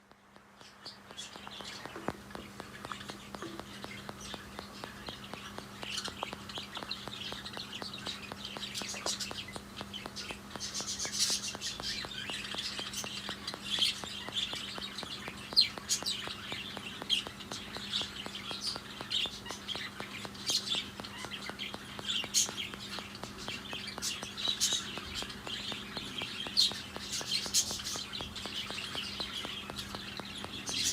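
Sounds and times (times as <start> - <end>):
budgerigars chirping: 0.6 - 30.9.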